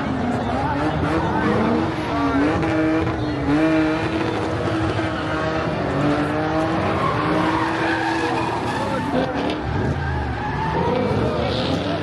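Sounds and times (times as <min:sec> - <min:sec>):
car engine revving high: 0:00.5 - 0:12.0.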